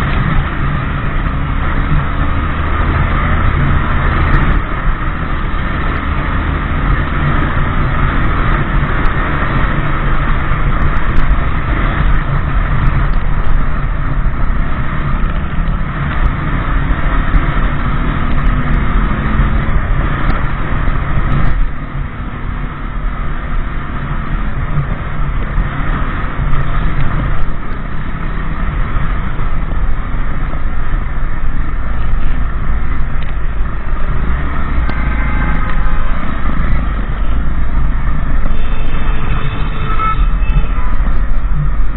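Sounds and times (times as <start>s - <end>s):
motorbike running at speed: 0.0s - 41.9s
wind and road noise: 0.0s - 41.9s.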